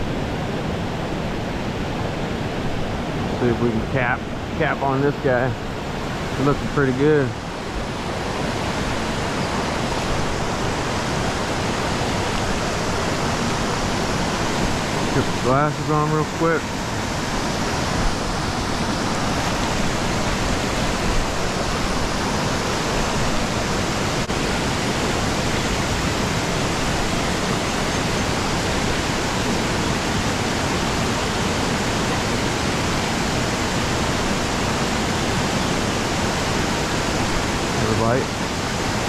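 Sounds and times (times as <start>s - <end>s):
creek water rushing: 0.0s - 39.0s.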